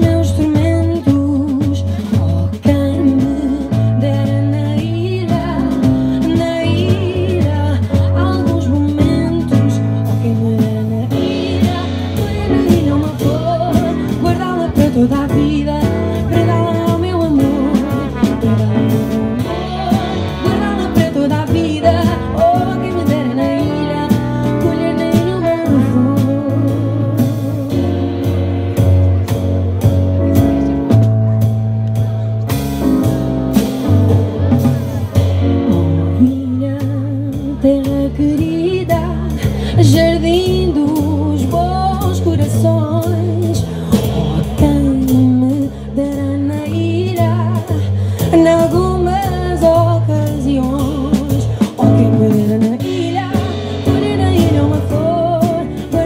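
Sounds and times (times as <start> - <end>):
folk band playing: 0.0 - 56.0.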